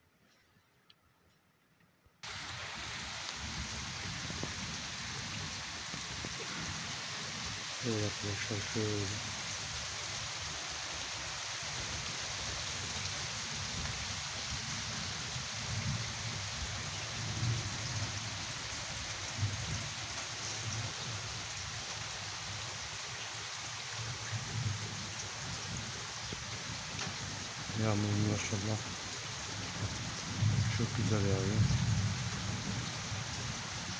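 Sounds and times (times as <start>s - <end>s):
steady rain on trees and roofs: 2.2s - 33.9s.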